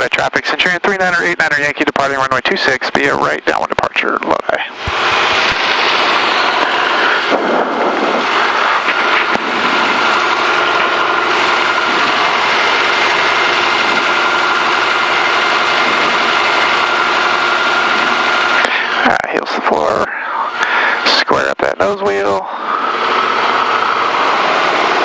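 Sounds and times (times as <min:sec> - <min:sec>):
airplane engine running: 0:00.0 - 0:25.0.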